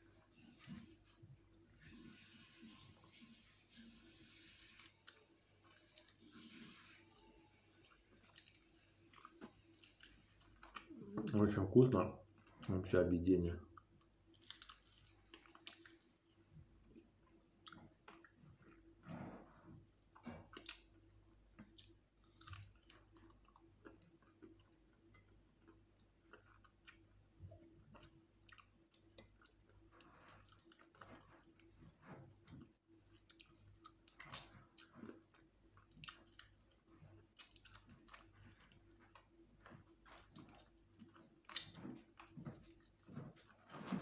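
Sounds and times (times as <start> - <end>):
chewing fried chicken: 0.0 - 44.0.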